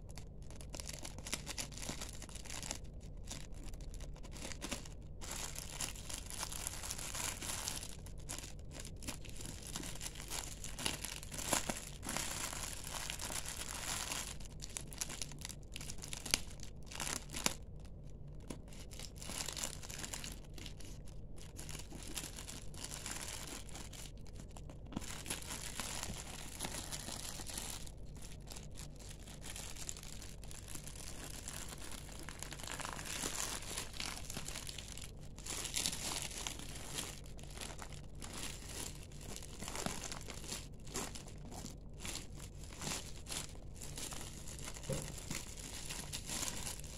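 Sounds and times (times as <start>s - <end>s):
plastic bag crinkling: 0.0s - 46.9s.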